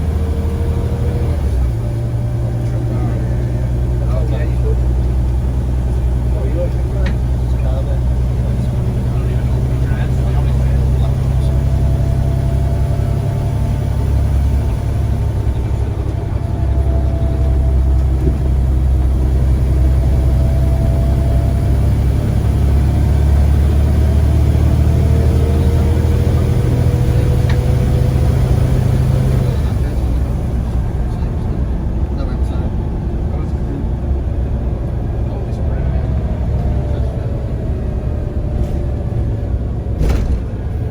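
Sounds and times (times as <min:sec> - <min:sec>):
bus engine low drone: 0:00.0 - 0:40.9.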